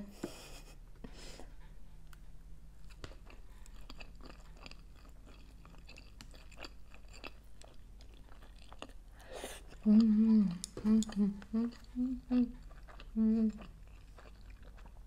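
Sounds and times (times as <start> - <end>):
mouth chewing food: 2.8 - 15.0.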